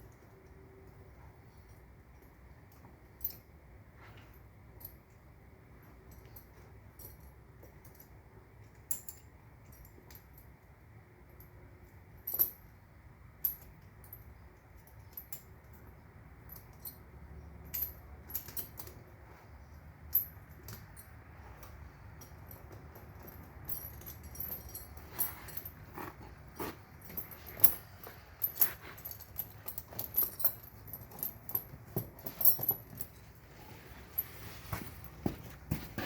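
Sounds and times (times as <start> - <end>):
steel chain links clinking: 0.0 - 36.0.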